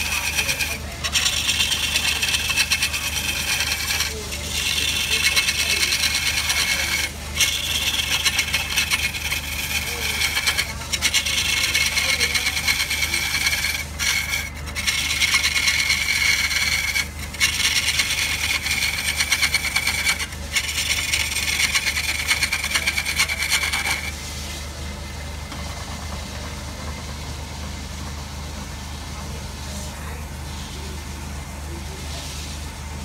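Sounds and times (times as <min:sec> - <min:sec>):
lathe tool shaving wood: 0:00.0 - 0:28.7
lathe humming: 0:00.0 - 0:33.0.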